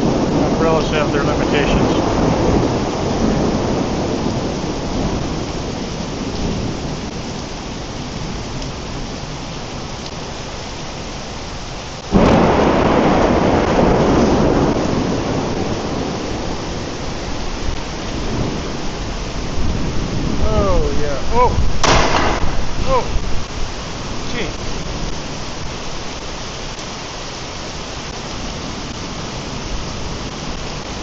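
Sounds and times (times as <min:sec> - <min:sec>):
heavy rain pouring: 0:00.0 - 0:31.0
thunderclap rumbling: 0:00.0 - 0:31.0.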